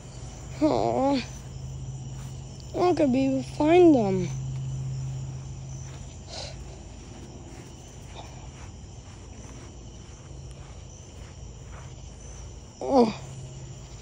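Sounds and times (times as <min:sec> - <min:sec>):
crickets chirping: 0:00.0 - 0:14.0
low hum: 0:00.0 - 0:14.0.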